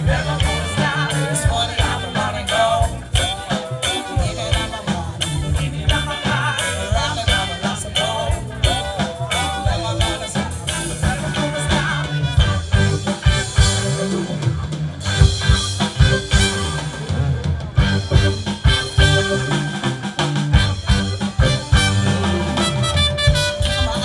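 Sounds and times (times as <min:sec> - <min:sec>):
bass line: 0:00.0 - 0:24.0
drum kit beat: 0:00.0 - 0:24.0
electric guitars: 0:00.0 - 0:24.0
keyboard: 0:00.0 - 0:24.0.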